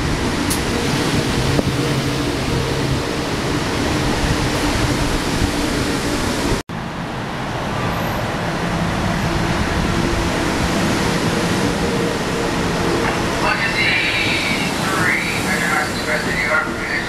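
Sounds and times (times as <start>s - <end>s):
train wheel noise: 0.0s - 6.6s, 7.2s - 17.0s.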